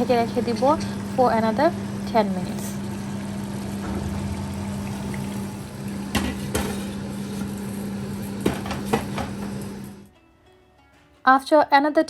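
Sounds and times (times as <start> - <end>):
curry sizzling and bubbling in pot: 0.0 - 10.1
steady hum: 0.0 - 10.1.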